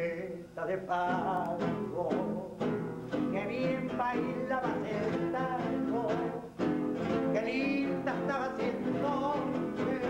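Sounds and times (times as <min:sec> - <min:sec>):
man singing: 0:00.0 - 0:10.0
tango on acoustic guitars: 0:00.0 - 0:10.0.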